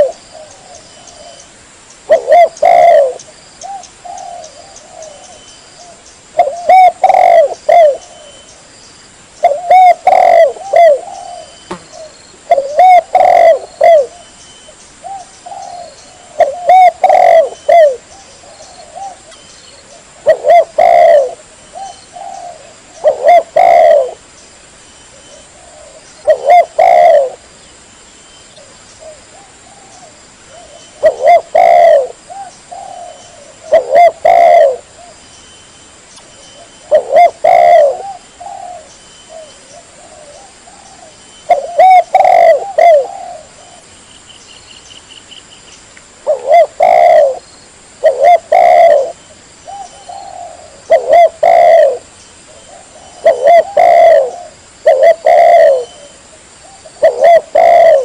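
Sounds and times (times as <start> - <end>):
dove cooing: 0.0 - 1.5, 2.1 - 8.5, 9.4 - 14.4, 15.0 - 24.2, 25.1 - 27.5, 28.6 - 35.2, 36.6 - 43.9, 46.2 - 47.4, 48.0 - 58.0.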